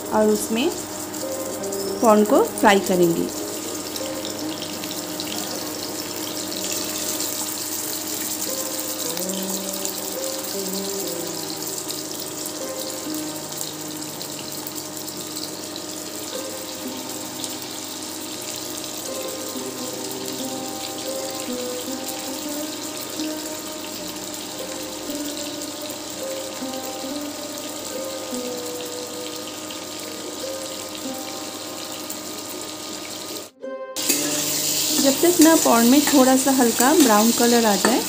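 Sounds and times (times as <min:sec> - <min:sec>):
prawns sizzling in oil: 0:00.0 - 0:38.0
soft melodic background music: 0:00.0 - 0:38.0.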